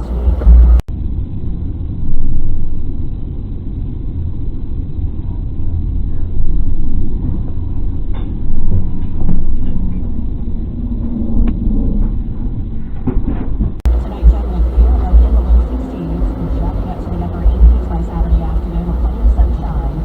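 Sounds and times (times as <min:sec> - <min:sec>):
muffled vehicle rumble: 0:00.0 - 0:20.0.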